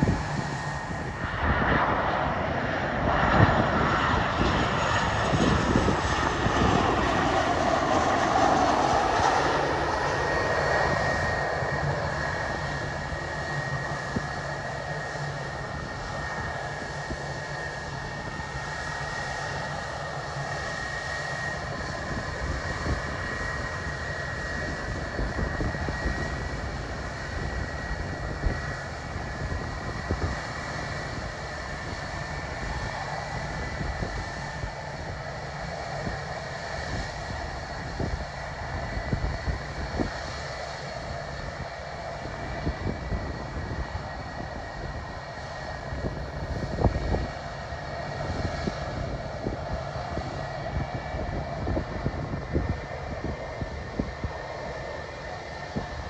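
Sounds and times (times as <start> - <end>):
airliner engines passing: 0.0 - 56.0.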